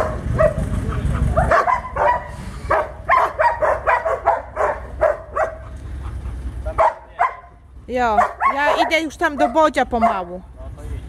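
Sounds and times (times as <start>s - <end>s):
dog barking: 0.0s - 10.4s
low engine rumble: 0.0s - 11.0s.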